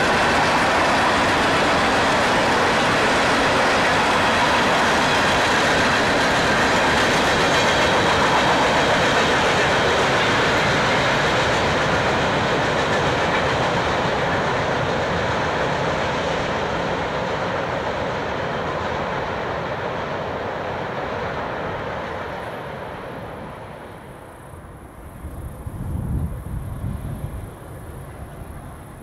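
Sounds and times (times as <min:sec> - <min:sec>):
steel wheels rushing on rail: 0:00.0 - 0:29.0.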